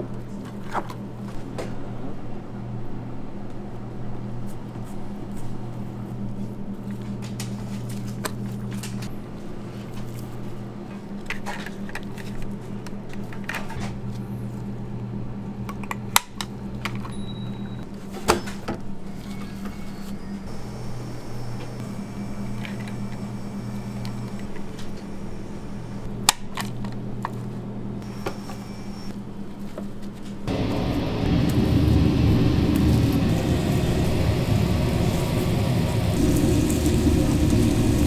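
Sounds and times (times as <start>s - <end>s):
kitchen machinery hum: 0.0s - 38.0s.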